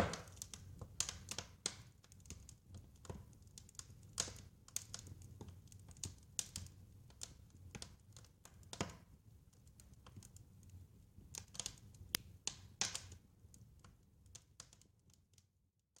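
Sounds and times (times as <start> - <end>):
wood fire crackling: 0.0 - 15.6.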